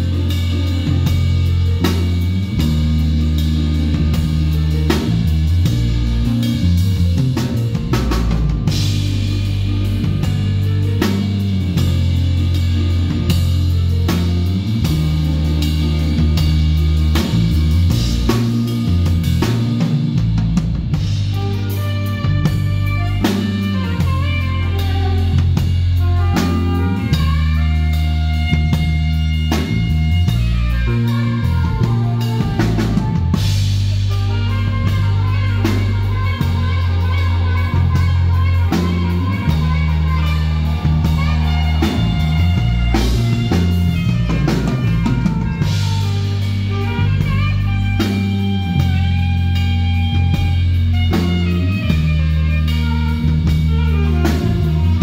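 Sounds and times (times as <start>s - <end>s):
drum kit: 0.0s - 55.0s
electric bass line: 0.0s - 55.0s
saxophone solo: 0.0s - 55.0s.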